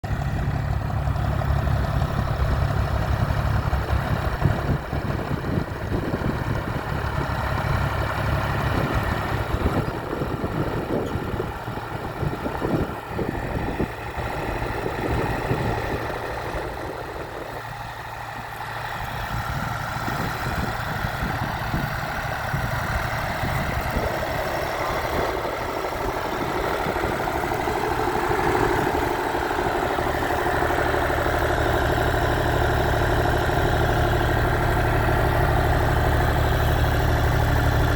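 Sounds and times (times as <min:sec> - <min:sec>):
tractor diesel engine drone: 0:00.0 - 0:37.9.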